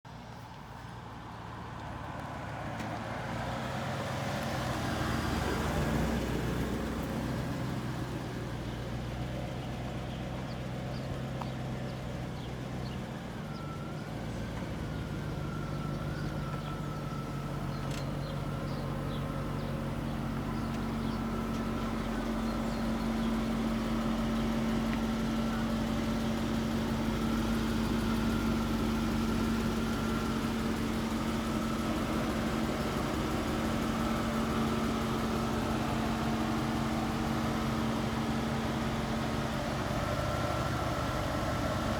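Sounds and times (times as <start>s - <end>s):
car engine idling: 0.1s - 41.9s.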